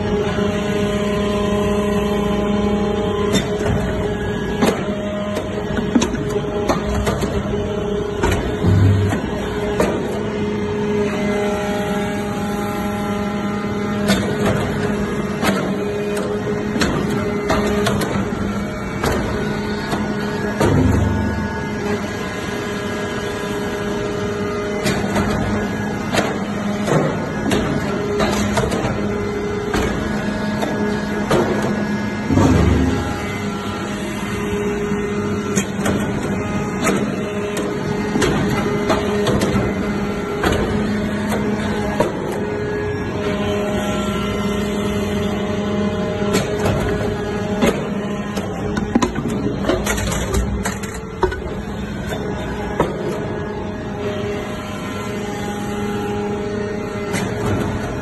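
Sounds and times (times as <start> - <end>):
hydraulic power unit hum: 0.0 - 58.0.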